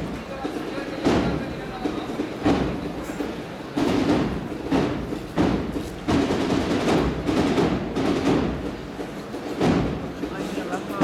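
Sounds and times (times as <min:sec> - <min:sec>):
band playing a slow march: 0:00.0 - 0:11.0
drums striking a steady beat: 0:00.0 - 0:11.0.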